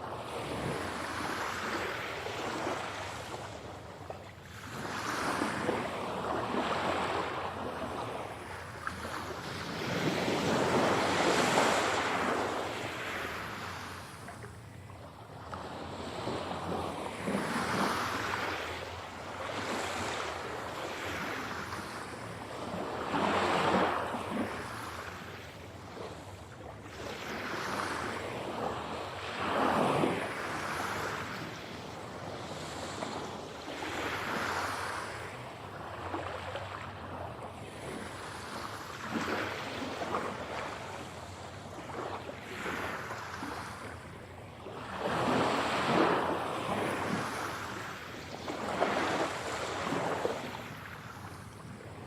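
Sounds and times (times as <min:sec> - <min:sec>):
ocean waves breaking on shore: 0:00.0 - 0:52.0.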